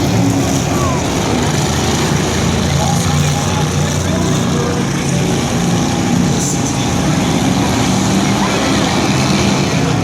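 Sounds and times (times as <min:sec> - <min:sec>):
broad noise: 0:00.0 - 0:10.0
truck engines running loudly: 0:00.0 - 0:10.0.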